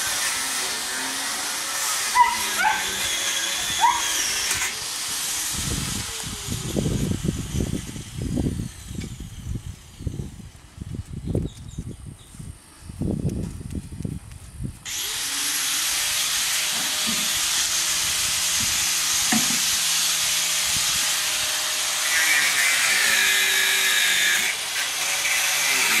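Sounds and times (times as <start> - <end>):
loud steady hiss: 0.0 - 11.1, 12.0 - 26.0.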